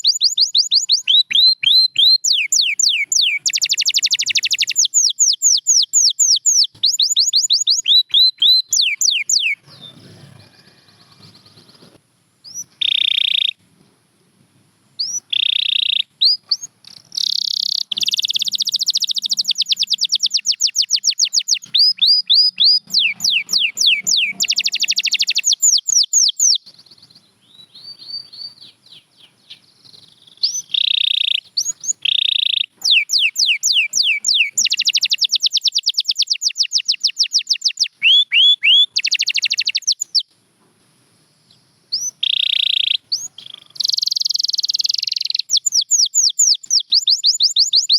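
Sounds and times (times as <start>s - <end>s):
canary singing trills: 0.0s - 13.7s, 15.0s - 40.3s, 41.5s - 47.9s.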